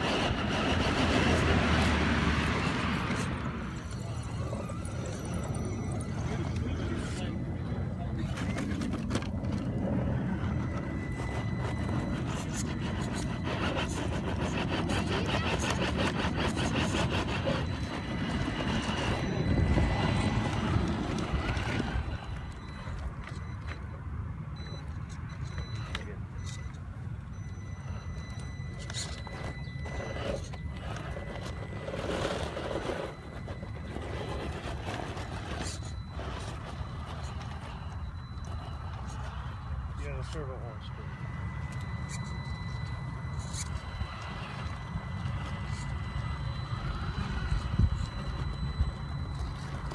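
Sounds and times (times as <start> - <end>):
electric motor whining: 0.0 - 23.4, 27.4 - 49.9.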